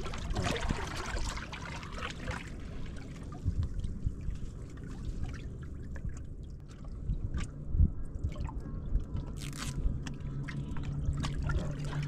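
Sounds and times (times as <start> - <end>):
low rumble: 0.0 - 12.0
water lapping around boat: 0.0 - 12.0.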